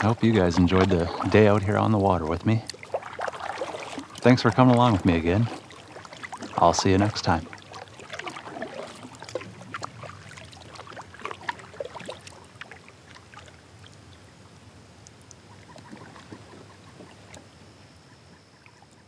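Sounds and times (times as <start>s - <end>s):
paddle splashing water: 0.0s - 17.9s.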